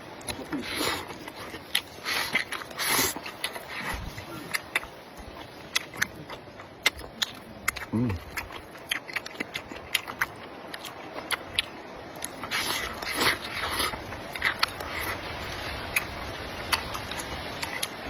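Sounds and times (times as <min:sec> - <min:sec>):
wet chewing with mouth clicks: 0:00.0 - 0:18.0.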